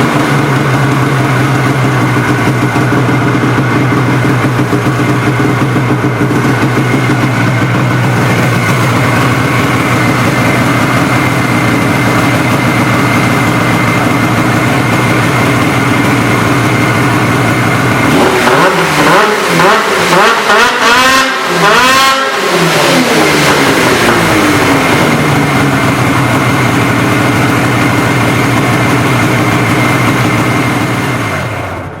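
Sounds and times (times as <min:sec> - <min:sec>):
snowmobile engine idling and revving: 0:00.0 - 0:32.0.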